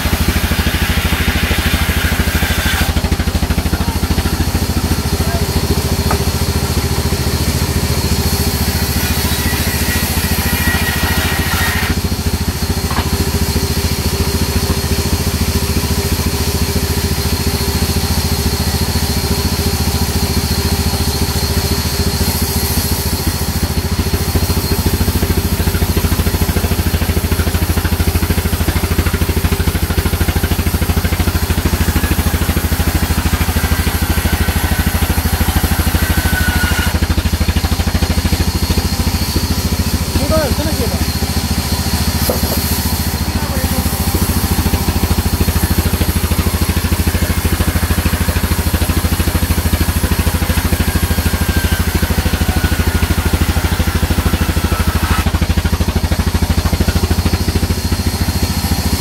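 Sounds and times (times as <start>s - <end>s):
band saw cutting timber: 0.0s - 59.0s.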